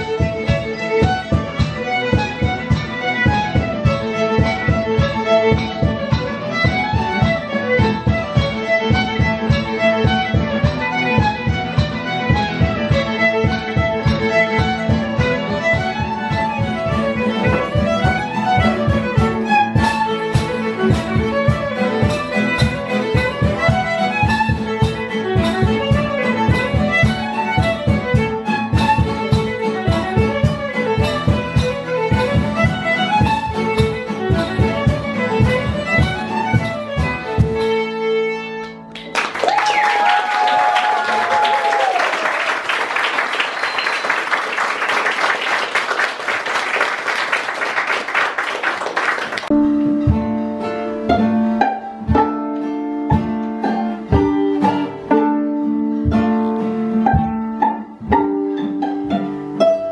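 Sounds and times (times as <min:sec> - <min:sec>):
violin: 0:00.0 - 0:39.3, 0:49.2 - 0:59.9
plucked strings: 0:00.0 - 0:39.4, 0:49.2 - 0:59.9.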